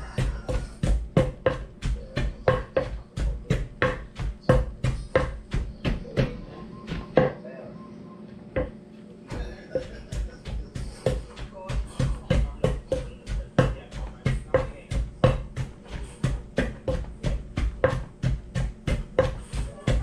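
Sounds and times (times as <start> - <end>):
pestle pounding in mortar: 0.0 - 7.4, 8.6 - 20.0.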